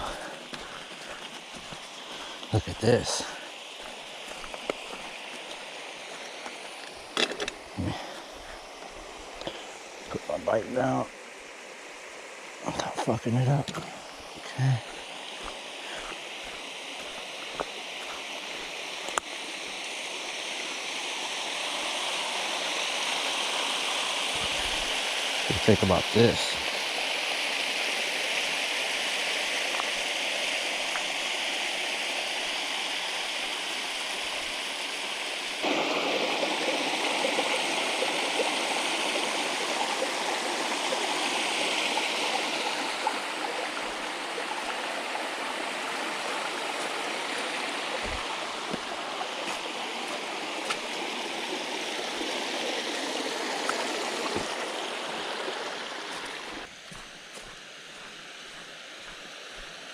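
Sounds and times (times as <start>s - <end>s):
small waterfall splashing into creek: 0.0s - 59.9s.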